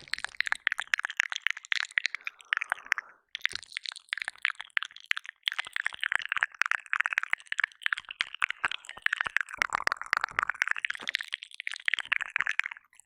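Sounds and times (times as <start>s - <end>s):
wet mouth clicks and smacks: 0.0s - 13.0s.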